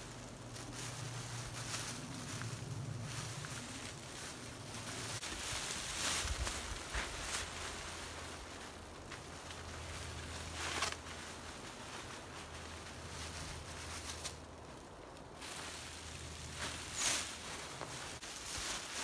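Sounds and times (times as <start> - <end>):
plastic sheeting crinkling: 0.0 - 19.0.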